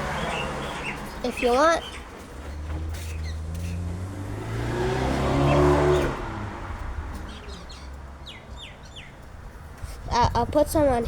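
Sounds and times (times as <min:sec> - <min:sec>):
car driving past: 0:00.0 - 0:09.1.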